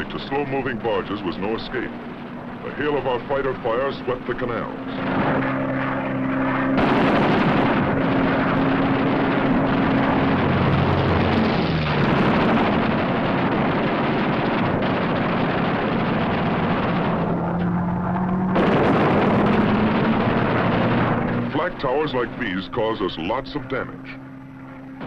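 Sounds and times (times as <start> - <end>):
piston aircraft engine roaring: 0.0 - 25.0.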